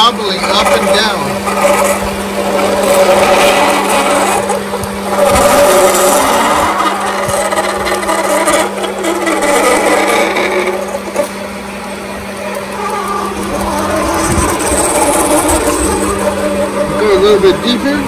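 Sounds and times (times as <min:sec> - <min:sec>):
drill rasping through plastic: 0:00.0 - 0:18.0
lathe machine hum: 0:00.0 - 0:18.0.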